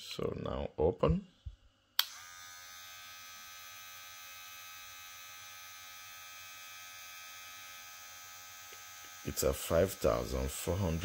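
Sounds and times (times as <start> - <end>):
hair clipper motor humming: 2.0 - 11.0.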